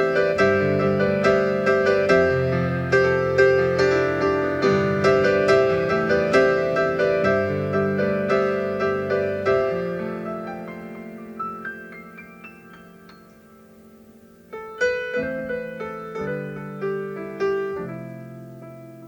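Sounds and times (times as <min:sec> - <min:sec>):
slow gentle piano piece: 0:00.0 - 0:19.0.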